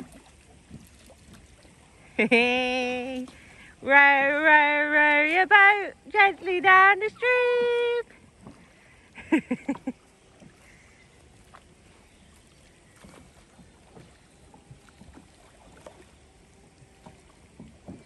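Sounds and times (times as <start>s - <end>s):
oar splashes: 0.0s - 18.0s.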